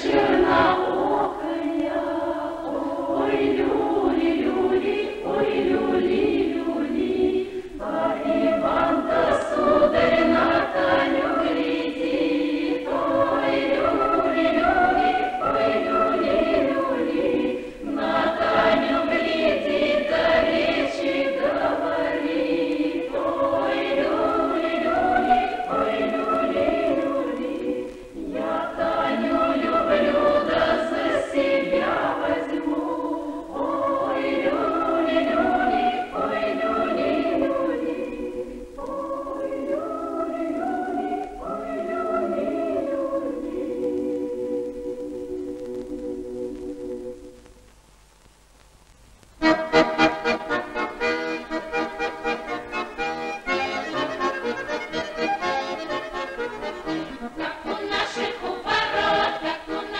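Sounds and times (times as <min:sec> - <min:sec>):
choir singing: 0:00.0 - 0:47.4, 0:49.4 - 0:59.9.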